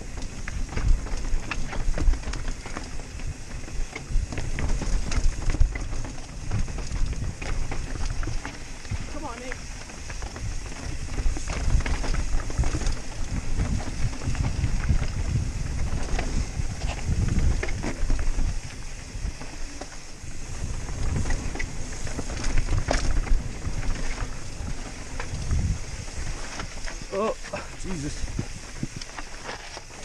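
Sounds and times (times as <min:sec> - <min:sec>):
wind rumbling over microphone: 0:00.0 - 0:30.0.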